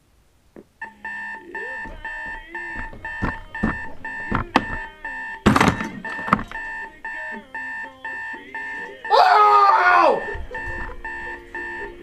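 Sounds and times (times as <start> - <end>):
alarm clock beeping: 0.8 - 12.0.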